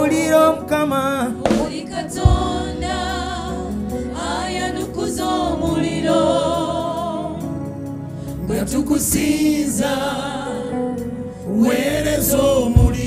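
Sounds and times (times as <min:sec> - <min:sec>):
low instrumental backing: 0:00.0 - 0:13.0
voices singing worship song: 0:00.0 - 0:13.0.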